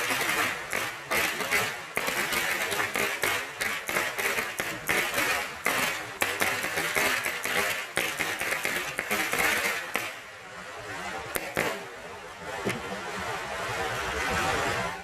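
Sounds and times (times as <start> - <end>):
firecrackers crackling: 0.0 - 13.2.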